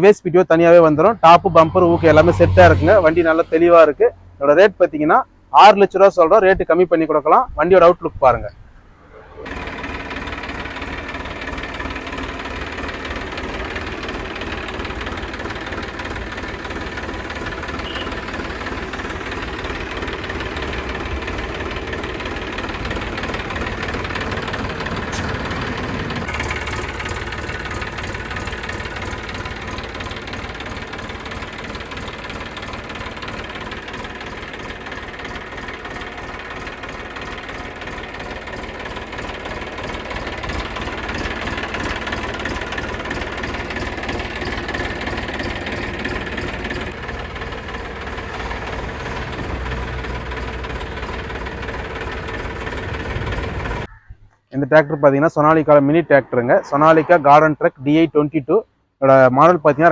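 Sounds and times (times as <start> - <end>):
tractor diesel engine idling: 0.0 - 6.5, 9.3 - 53.9.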